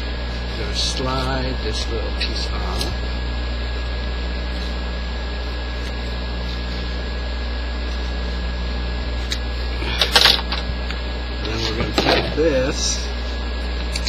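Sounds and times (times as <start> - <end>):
mechanical hum with hiss: 0.0 - 14.0.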